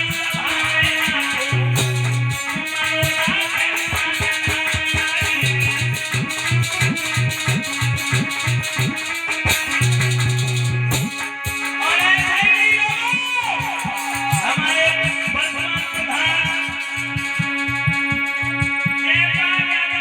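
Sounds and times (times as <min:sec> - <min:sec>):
quick drum beat: 0:00.0 - 0:19.0
string or keyboard melody: 0:00.0 - 0:20.0.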